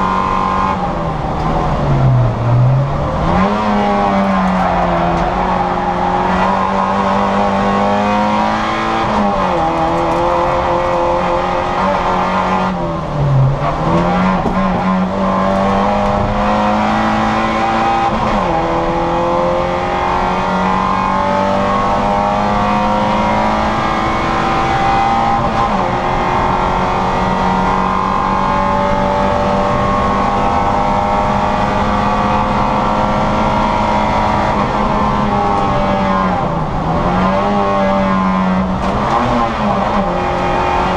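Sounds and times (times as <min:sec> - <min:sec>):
car engine at full throttle: 0:00.0 - 0:40.9.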